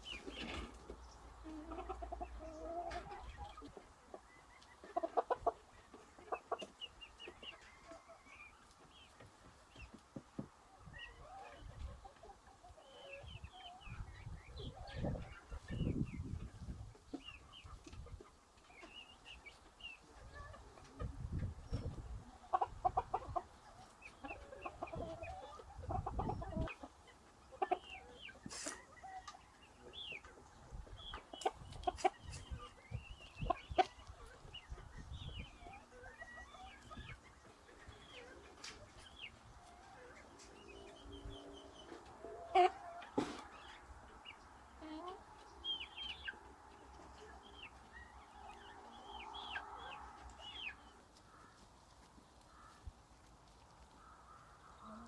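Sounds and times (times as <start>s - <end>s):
chickens clucking: 0.0s - 55.0s
small birds chirping: 0.0s - 55.0s.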